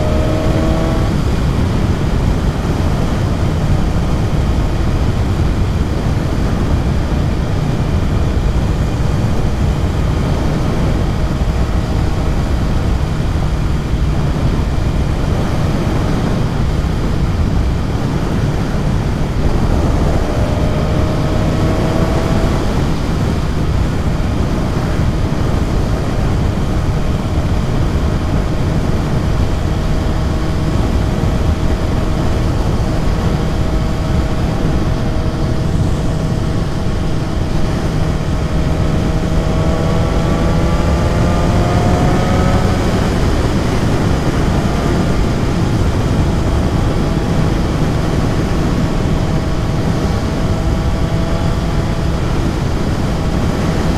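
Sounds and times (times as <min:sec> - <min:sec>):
motorcycle engine running: 0:00.0 - 0:53.9
wind rush over microphone: 0:00.0 - 0:53.9.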